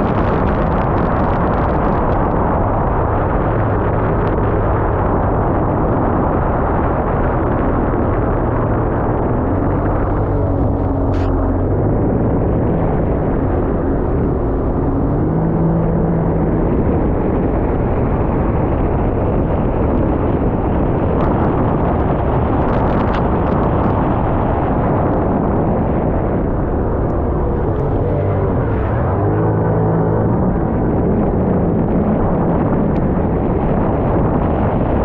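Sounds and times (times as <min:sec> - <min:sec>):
jet ski engine running: 0:00.0 - 0:35.0
rushing wind and water: 0:00.0 - 0:35.0.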